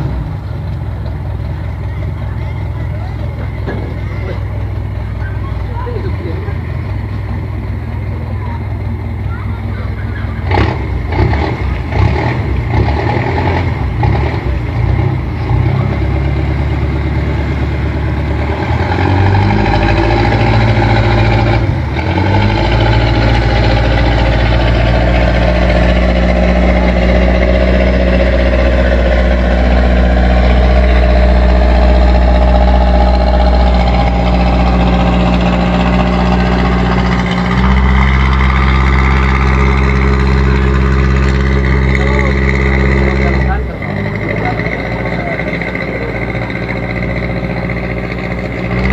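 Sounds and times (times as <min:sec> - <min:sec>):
boat diesel engine running: 0:00.0 - 0:48.9.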